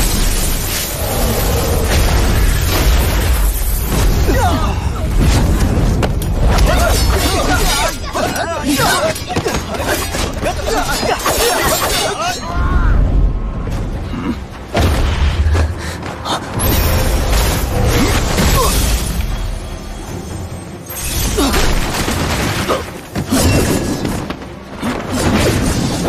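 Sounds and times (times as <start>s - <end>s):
dramatic background music: 0.0s - 26.0s.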